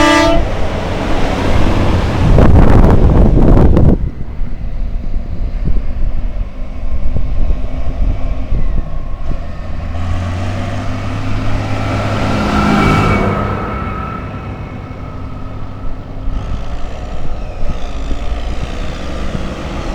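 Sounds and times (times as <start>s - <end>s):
tractor engines rumbling: 0.0s - 19.9s.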